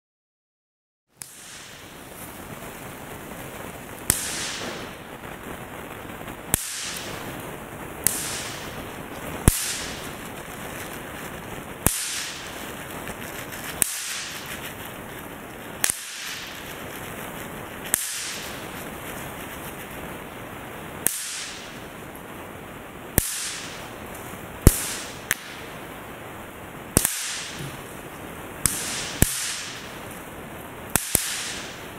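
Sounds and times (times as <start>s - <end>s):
steady hiss: 1.1s - 31.9s.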